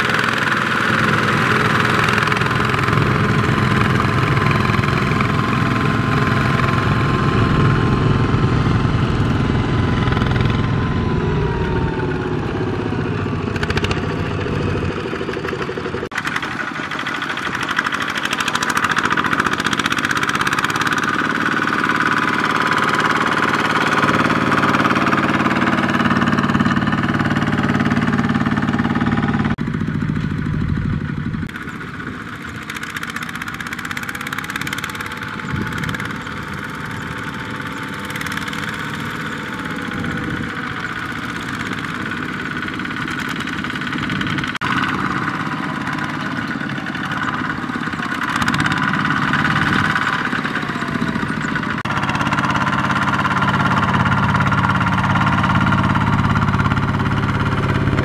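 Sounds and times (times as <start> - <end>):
diesel tractor engines under load: 0.0 - 58.0.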